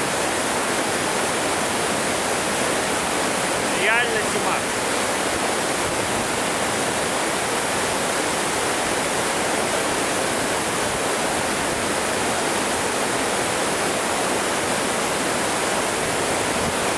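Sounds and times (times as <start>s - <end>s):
waterfall pouring over rocks: 0.0s - 16.9s.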